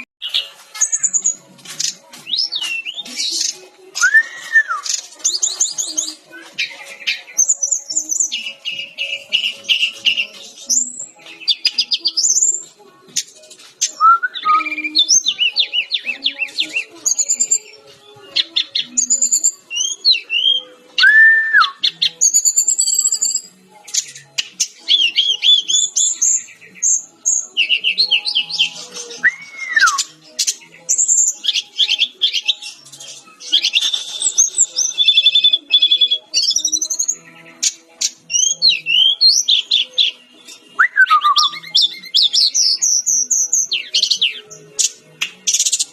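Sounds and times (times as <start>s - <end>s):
bird song whistles and trills: 0.0s - 45.9s.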